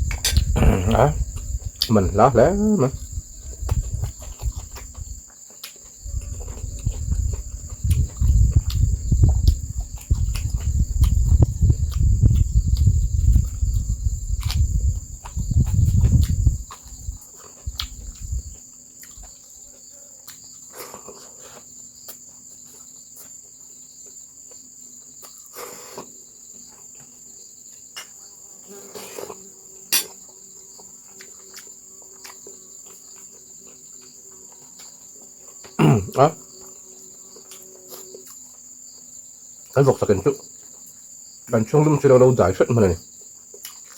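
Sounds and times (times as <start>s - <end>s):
crickets chirring: 0.0s - 43.9s.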